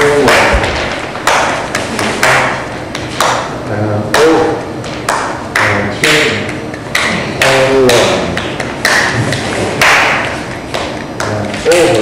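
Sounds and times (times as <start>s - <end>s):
percussion struck beats: 0.0s - 12.0s.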